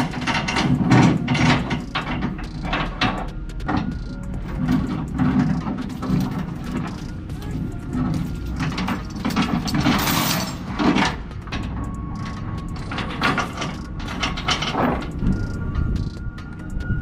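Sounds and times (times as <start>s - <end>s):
chain rattling over steel plates: 0.0s - 16.8s.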